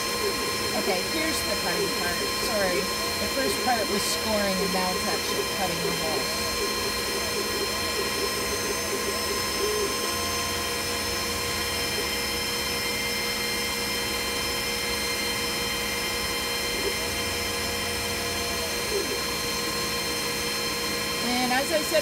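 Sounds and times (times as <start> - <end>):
laser cutter whirring: 0.0 - 22.0
steady machine tones: 0.0 - 22.0.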